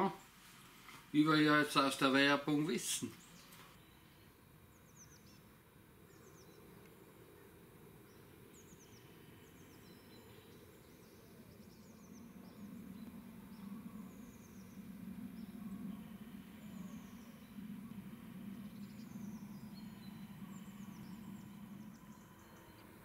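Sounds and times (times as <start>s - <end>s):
songbird chirping: 0.0s - 23.0s
low hum: 3.2s - 23.0s.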